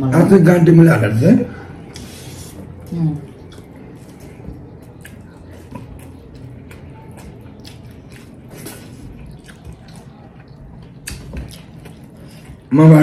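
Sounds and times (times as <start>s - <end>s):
wet chewing and lip-smacking: 1.9s - 12.7s.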